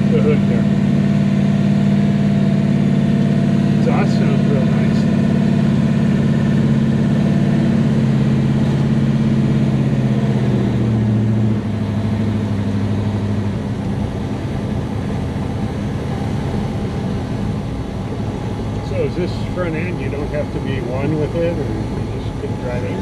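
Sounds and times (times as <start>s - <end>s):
deep car exhaust note: 0.0s - 23.0s.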